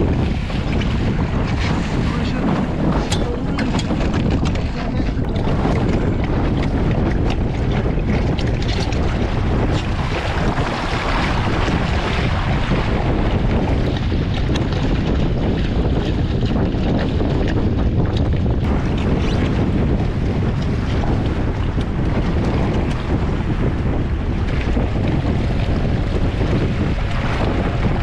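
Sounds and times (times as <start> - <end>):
water splashing along hull: 0.0 - 28.0
wind buffeting microphone: 0.0 - 28.0.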